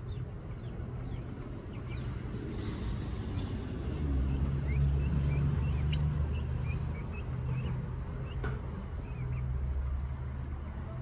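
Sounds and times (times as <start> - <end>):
chicks peeping: 0.0 - 9.9
low mechanical hum: 0.0 - 11.0.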